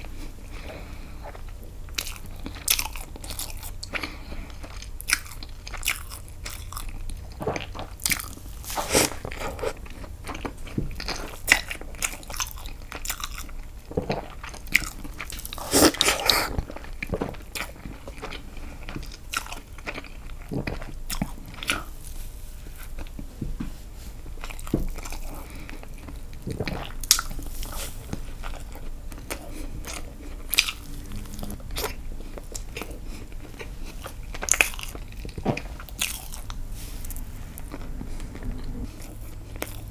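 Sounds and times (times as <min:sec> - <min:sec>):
chewing sponge cake: 0:00.0 - 0:39.9.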